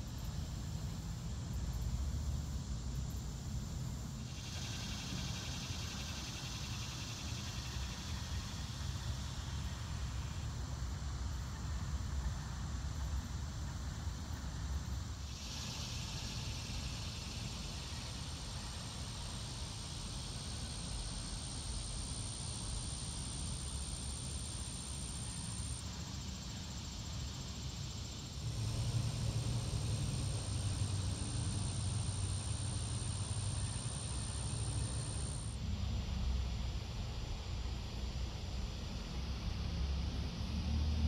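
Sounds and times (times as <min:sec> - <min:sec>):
insects droning: 0:00.0 - 0:41.0.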